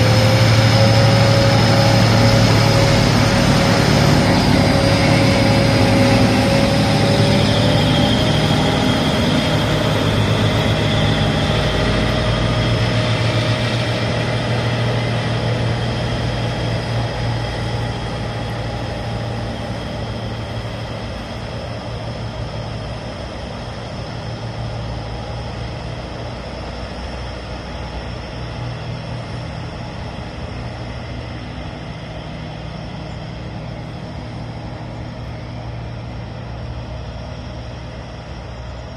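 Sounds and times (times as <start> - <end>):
locomotive engine drone: 0.0 - 38.9.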